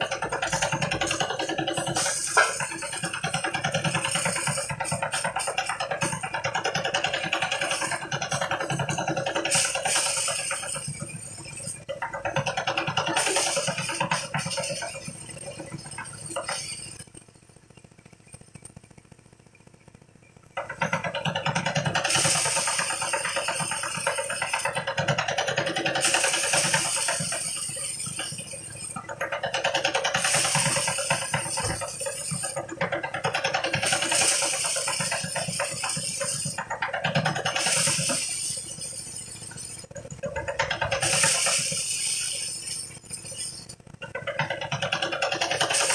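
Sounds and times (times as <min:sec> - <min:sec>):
threshing machine running: 0:00.0 - 0:17.2, 0:20.6 - 0:45.9.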